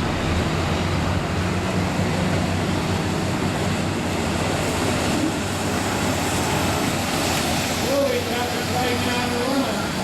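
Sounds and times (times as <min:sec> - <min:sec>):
constant wash of noise: 0:00.0 - 0:10.0
diesel truck engine running: 0:00.0 - 0:10.0.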